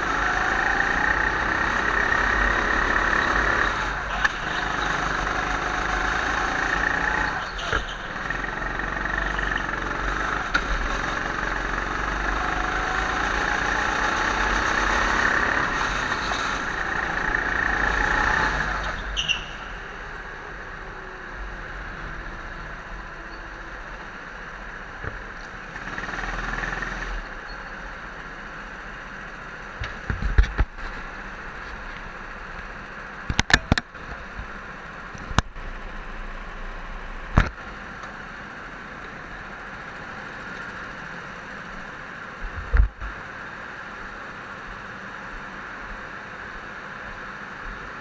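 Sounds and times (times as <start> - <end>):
go-kart engine hum: 0.0 - 48.0.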